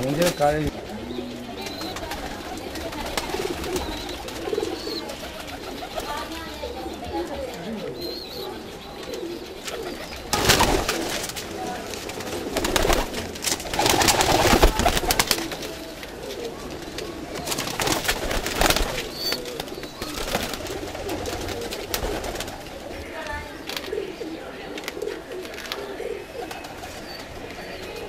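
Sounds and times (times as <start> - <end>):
wings flapping: 0.0 - 7.6, 9.0 - 28.0
pigeons cooing: 0.0 - 28.0.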